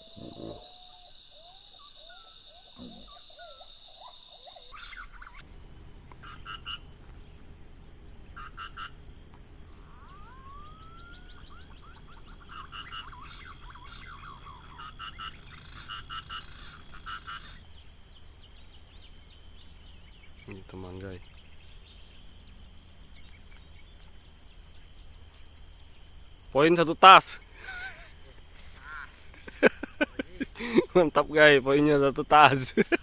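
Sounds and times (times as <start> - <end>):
high insect hum: 0.0 - 33.0
animal chirps and pulsed calls: 4.4 - 26.0, 26.6 - 32.6.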